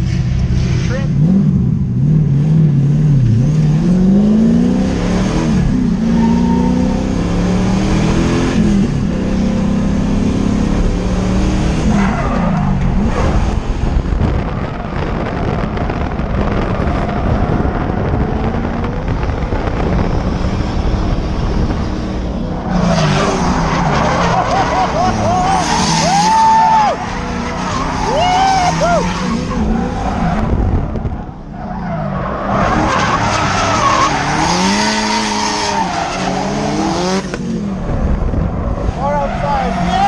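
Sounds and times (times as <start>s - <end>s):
car engine revving: 0.0s - 40.0s
road and tyre noise: 0.0s - 40.0s.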